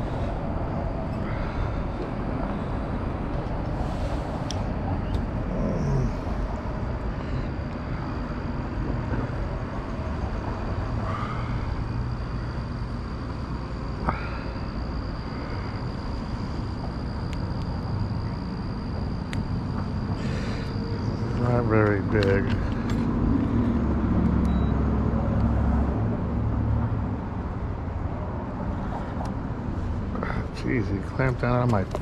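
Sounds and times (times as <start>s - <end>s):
low rumble of road traffic: 0.0s - 32.0s.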